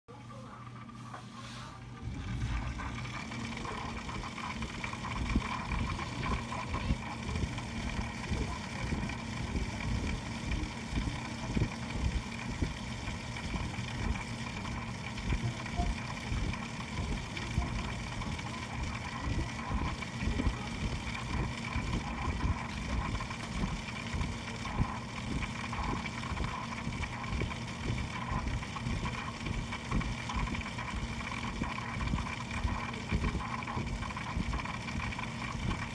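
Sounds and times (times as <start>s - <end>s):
computer hum: 0.1s - 35.9s.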